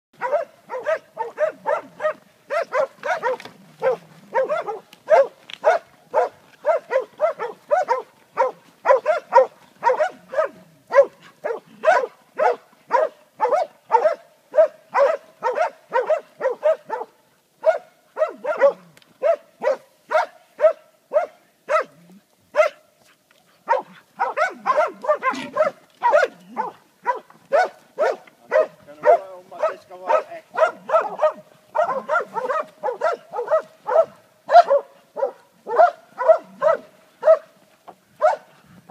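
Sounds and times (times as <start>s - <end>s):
dog barking: 0.2s - 22.8s, 23.6s - 37.6s, 38.2s - 38.5s.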